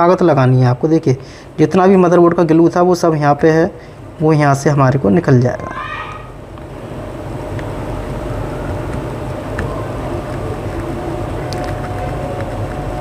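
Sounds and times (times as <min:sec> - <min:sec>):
low mechanical fan hum: 0:00.0 - 0:13.0.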